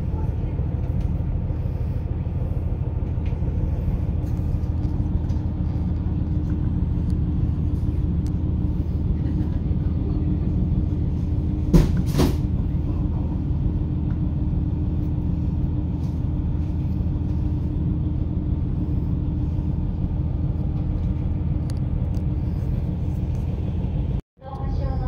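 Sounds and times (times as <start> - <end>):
constant hum: 0.0 - 25.0
railcar rumbling on track: 0.0 - 25.0.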